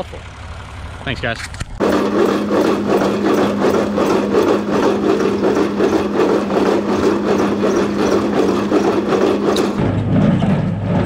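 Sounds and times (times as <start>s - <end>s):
tractor drone: 0.0s - 11.0s.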